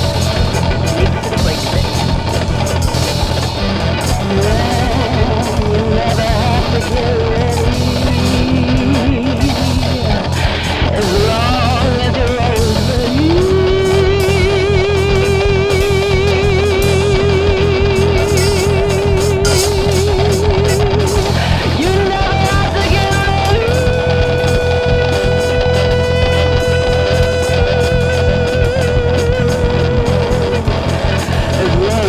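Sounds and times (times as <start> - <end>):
bass: 0.0 - 32.0
drums: 0.0 - 32.0
guitars: 0.0 - 32.0
melodic lead line with vibrato: 0.0 - 32.0.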